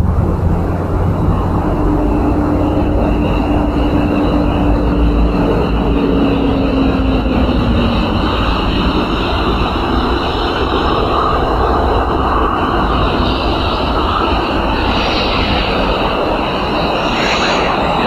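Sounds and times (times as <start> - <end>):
vehicle road rumble: 0.0 - 18.0
wind noise on microphone: 0.0 - 18.0.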